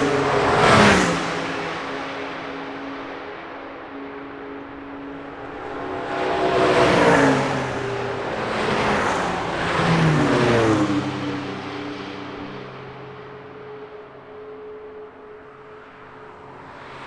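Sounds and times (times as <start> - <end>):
cars passing at speed: 0.0 - 17.0.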